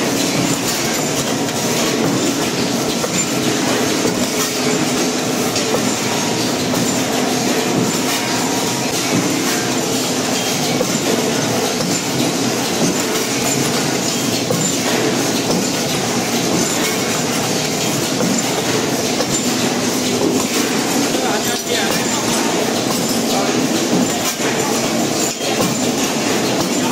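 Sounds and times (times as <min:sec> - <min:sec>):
machine running with clicks: 0:00.0 - 0:26.9.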